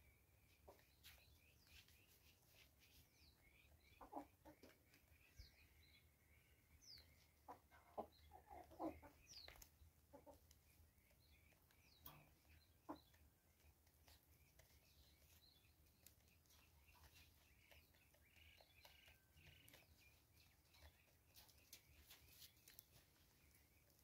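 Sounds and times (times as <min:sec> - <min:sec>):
small birds chirping: 0:00.0 - 0:24.0
chicken clucking: 0:00.5 - 0:24.0.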